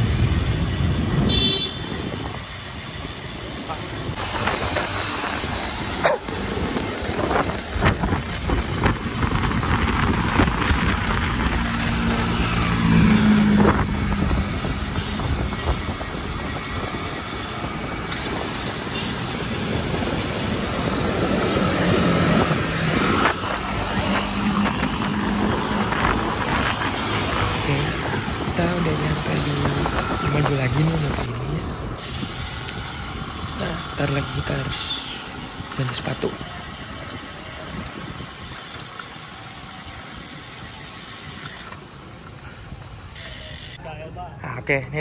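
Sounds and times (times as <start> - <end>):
wind buffeting microphone: 0.0 - 34.4, 35.5 - 38.6
motorcycle and minibus engines: 0.0 - 45.0.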